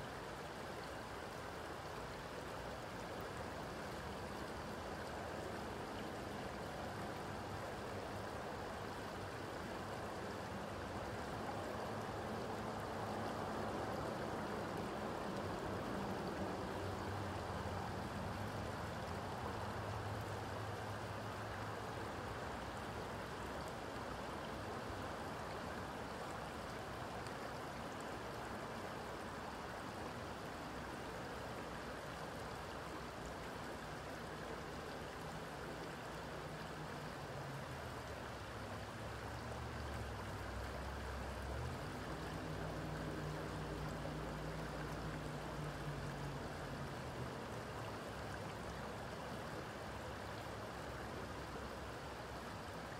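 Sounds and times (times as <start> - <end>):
creek water flowing over rocks: 0.0 - 52.9.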